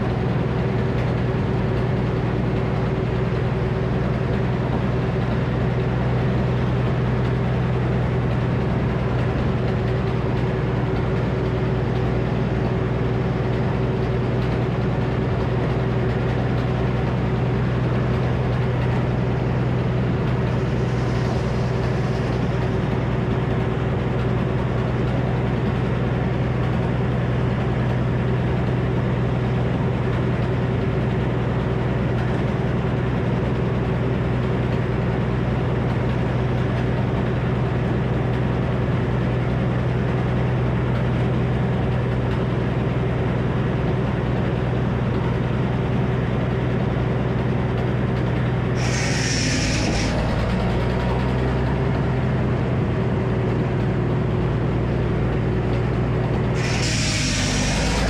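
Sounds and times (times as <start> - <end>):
sawmill blade drone: 0.0 - 58.0.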